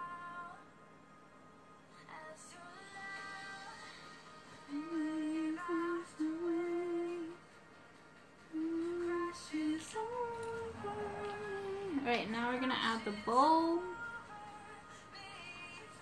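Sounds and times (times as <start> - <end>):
woman singing slow tune: 0.0 - 0.8, 2.0 - 7.4, 8.4 - 16.0.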